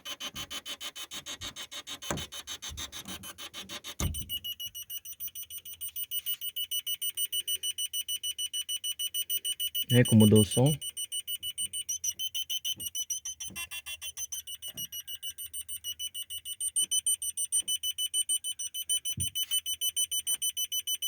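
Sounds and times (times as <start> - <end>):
parking sensor high beeps: 4.0 - 21.0.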